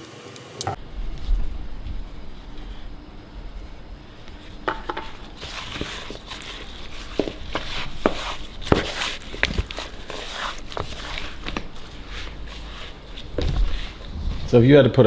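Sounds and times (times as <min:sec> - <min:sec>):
steady rustling: 0:00.7 - 0:15.0.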